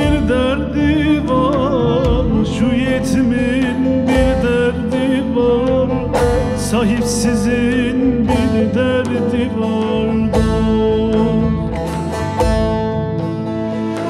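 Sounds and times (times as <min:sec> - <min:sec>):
saz strummed and plucked: 0:00.0 - 0:14.0.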